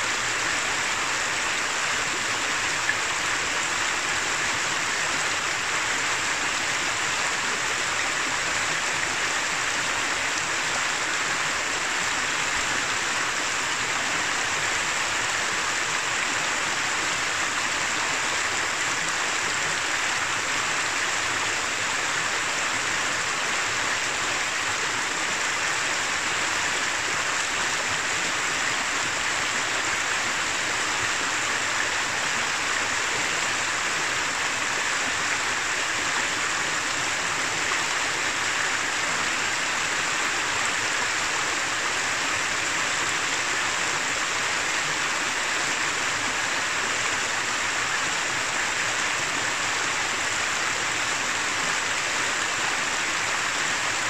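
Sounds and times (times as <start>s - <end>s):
river babbling over rocks: 0.0s - 54.0s.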